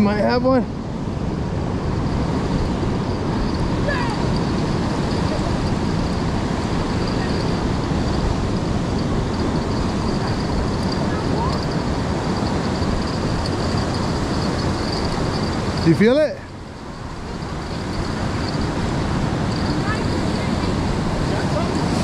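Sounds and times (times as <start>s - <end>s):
ocean surf breaking: 0.0s - 22.0s
wind: 0.0s - 22.0s.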